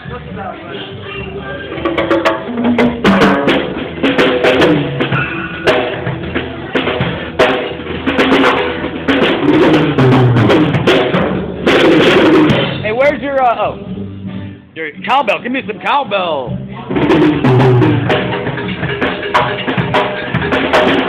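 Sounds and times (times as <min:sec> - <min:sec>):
pitched music with bass line: 0:00.0 - 0:21.0
drum kit hits and cymbals: 0:01.6 - 0:13.6, 0:15.1 - 0:21.0.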